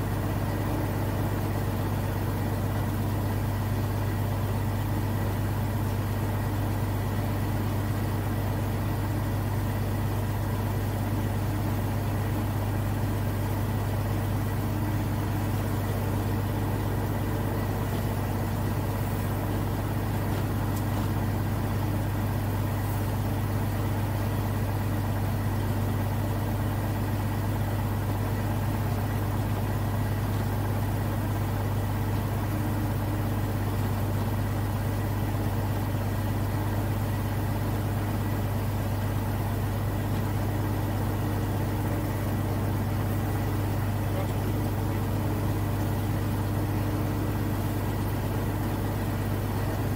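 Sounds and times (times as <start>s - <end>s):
light aircraft engine drone: 0.0s - 49.9s.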